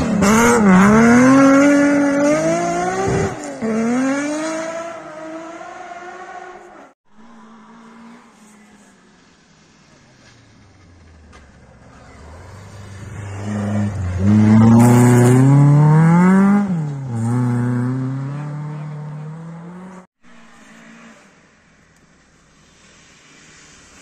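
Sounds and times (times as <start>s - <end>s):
rally car engine at full throttle: 0.0s - 21.6s.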